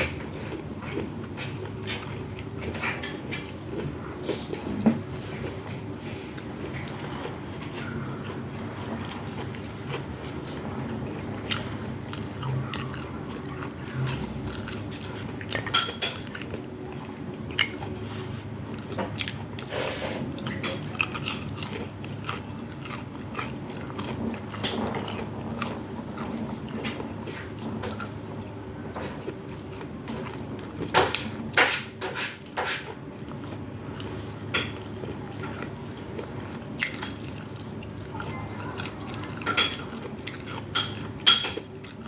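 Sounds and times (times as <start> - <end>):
crunchy chewing: 0.0 - 42.0.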